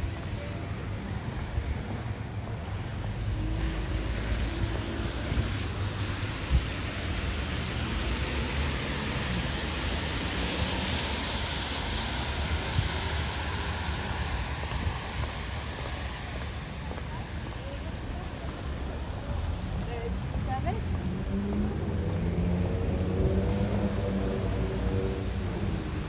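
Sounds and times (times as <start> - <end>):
rumble of vehicles: 0.0 - 26.0
tyres hissing on wet road: 0.0 - 26.0.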